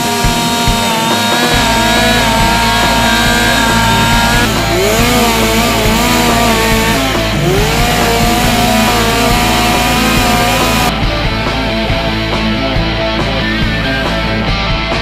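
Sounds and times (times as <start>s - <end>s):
chainsaws cutting logs: 0.0s - 12.7s.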